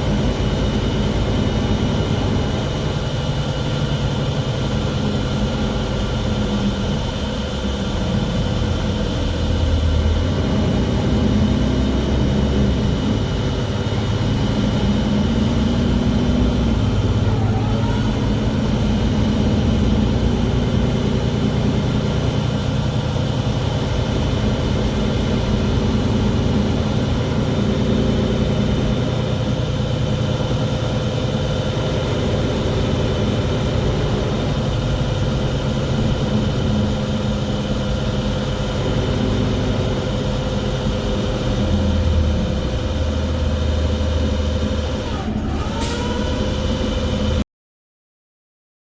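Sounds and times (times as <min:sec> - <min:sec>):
bus engine drone: 0:00.0 - 0:47.4.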